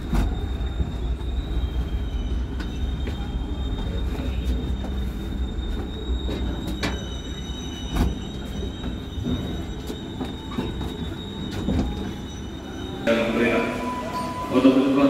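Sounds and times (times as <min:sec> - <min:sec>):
train rumbling on rails: 0:00.0 - 0:15.0
high wheel squeal: 0:00.1 - 0:15.0.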